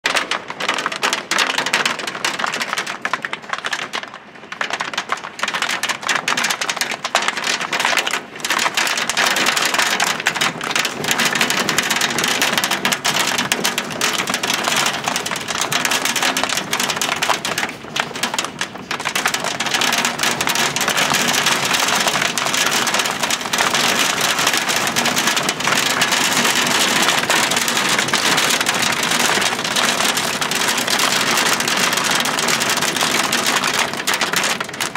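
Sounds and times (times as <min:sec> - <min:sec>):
hail and rain pelting window: 0:00.1 - 0:34.9.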